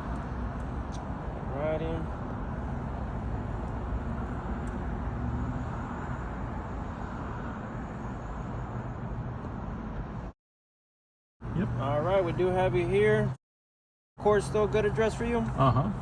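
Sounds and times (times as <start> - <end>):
traffic noise: 0.0 - 10.4, 11.4 - 13.4, 14.2 - 16.0.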